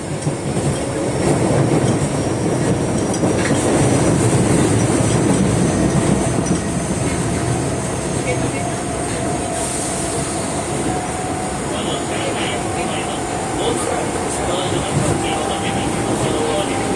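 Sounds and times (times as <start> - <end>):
subway train rumbling on rails: 0.0 - 16.9.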